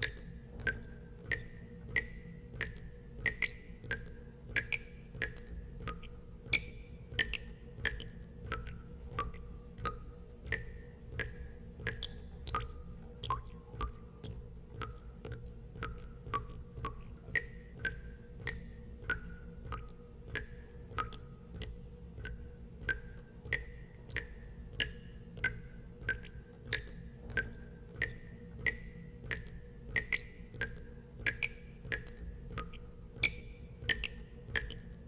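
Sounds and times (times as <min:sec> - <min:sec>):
steady low hum: 0:00.0 - 0:35.0
water drops plinking into water: 0:00.0 - 0:35.0.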